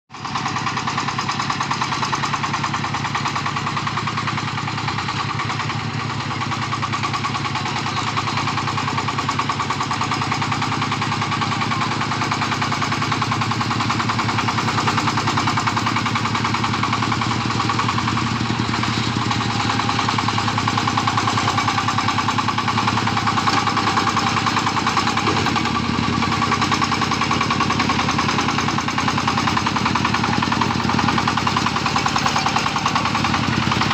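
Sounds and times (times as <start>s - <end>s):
diesel engine chugging: 0.1s - 33.9s.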